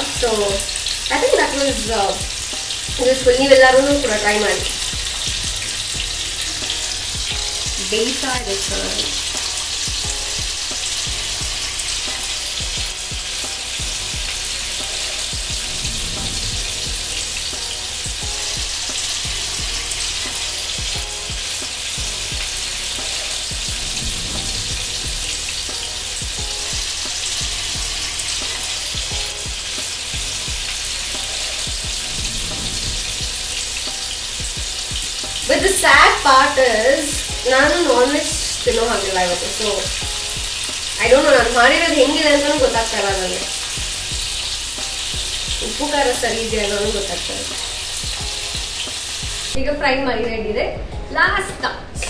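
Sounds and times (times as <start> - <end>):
chicken sizzling in hot oil: 0.0 - 49.6.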